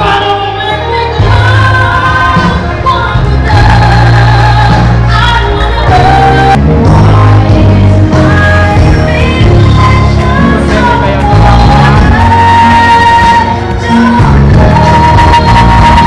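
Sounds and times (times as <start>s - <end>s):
backing track with heavy bass: 0.0s - 16.0s
woman singing into a microphone: 0.0s - 16.0s.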